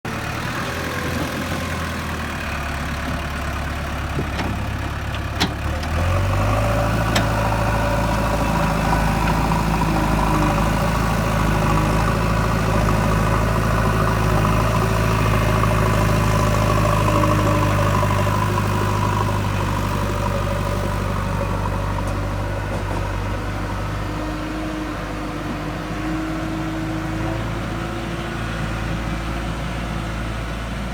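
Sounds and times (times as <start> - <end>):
diesel engine working under load: 0.0 - 30.9.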